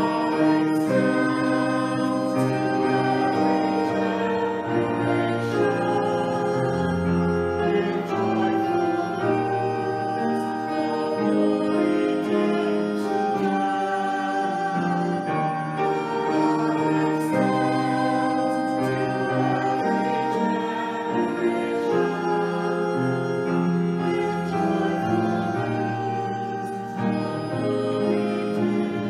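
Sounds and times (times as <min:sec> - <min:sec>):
congregation singing: 0:00.0 - 0:29.0
organ playing held chords: 0:00.0 - 0:29.0.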